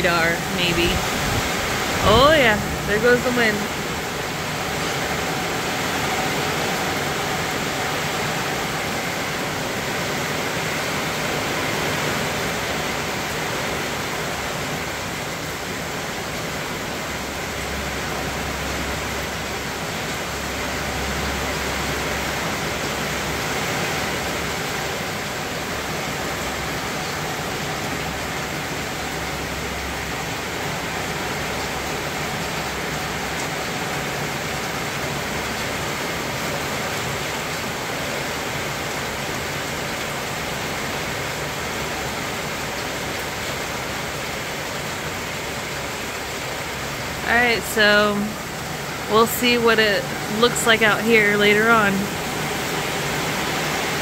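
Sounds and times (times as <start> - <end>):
gusting wind: 0.0 - 51.0
wind-driven rain: 0.0 - 54.0.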